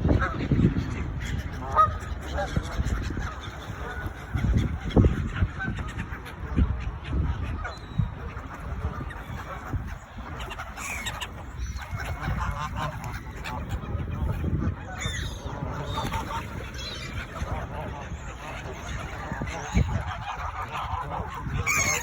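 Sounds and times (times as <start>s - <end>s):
waterfowl calling: 0.1s - 22.0s.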